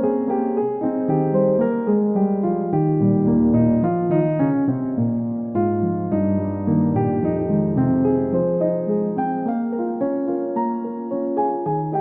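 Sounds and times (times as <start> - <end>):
gentle piano melody: 0.0 - 12.0.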